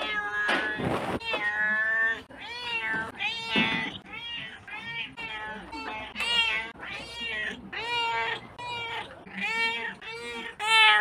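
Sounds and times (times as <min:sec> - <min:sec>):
cat meowing: 0:00.0 - 0:11.0.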